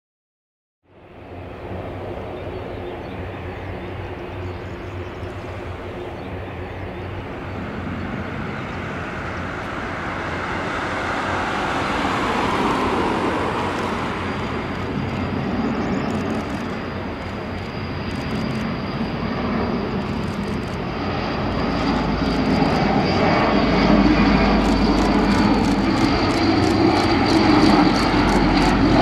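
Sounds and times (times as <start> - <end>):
turboprop engines droning: 0.8 - 29.0
thin high whine: 5.4 - 29.0.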